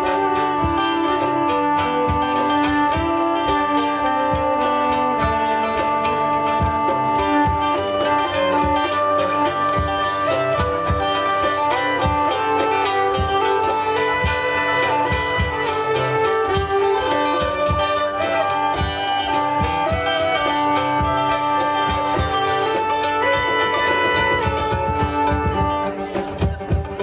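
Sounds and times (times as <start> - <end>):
cajon beat: 0.0 - 27.0
fiddle melody: 0.0 - 27.0
hurdy-gurdy melody: 0.0 - 27.0
plucked string instrument: 0.0 - 27.0.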